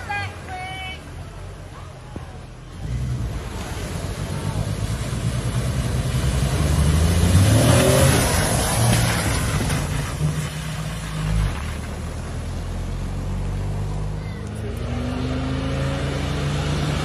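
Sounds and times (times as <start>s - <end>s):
vehicle engine passing by: 2.6s - 17.0s.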